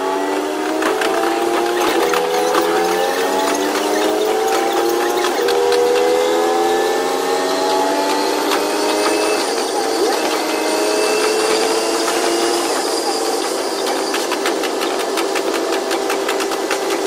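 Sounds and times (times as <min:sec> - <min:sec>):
diesel railcar engine rising: 0:00.0 - 0:17.0.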